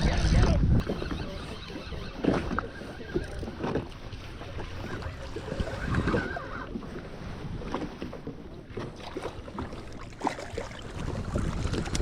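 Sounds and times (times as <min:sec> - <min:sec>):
wind on microphone: 0:00.0 - 0:08.3, 0:10.4 - 0:12.0
water slapping against hull: 0:00.0 - 0:12.0.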